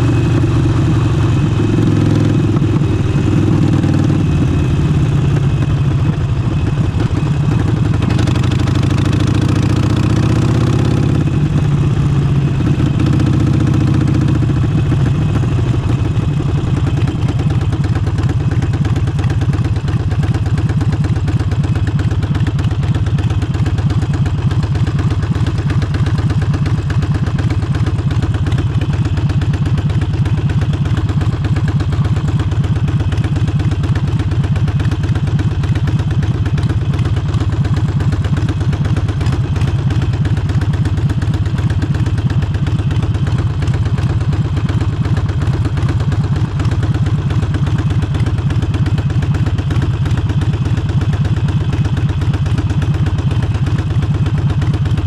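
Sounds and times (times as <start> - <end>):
motorcycle exhaust pulse: 0.0 - 55.0.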